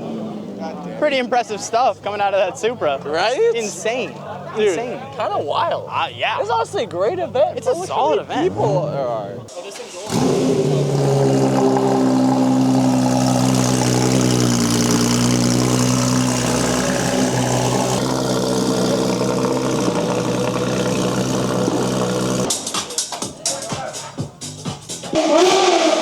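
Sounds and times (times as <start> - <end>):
car engine running: 0.0 - 22.5.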